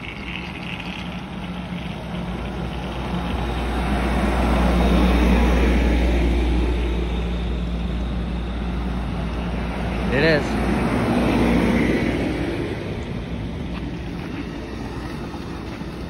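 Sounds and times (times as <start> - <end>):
train hum: 0.0 - 16.0.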